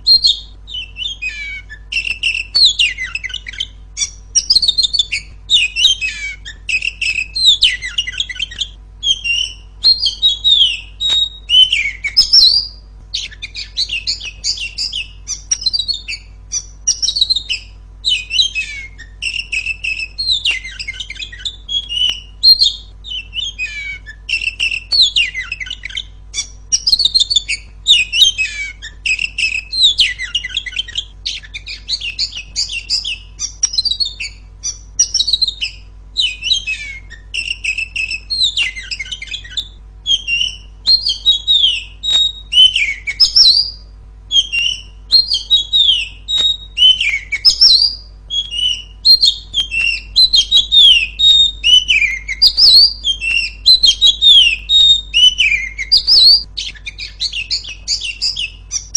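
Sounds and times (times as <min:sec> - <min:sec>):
bird singing: 0:00.0 - 0:58.9
faint steady hum: 0:00.0 - 0:58.9.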